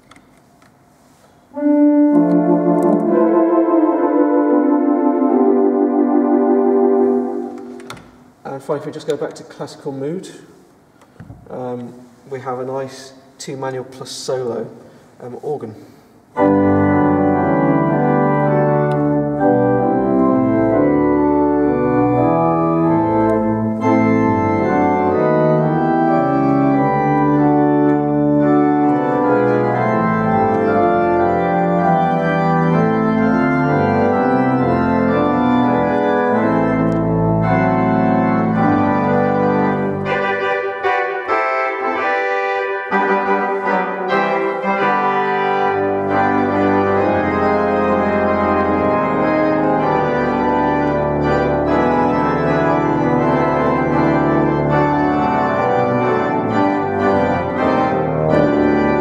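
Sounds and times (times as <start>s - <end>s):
organ playing sustained chords: 0.9s - 10.2s, 16.2s - 59.0s.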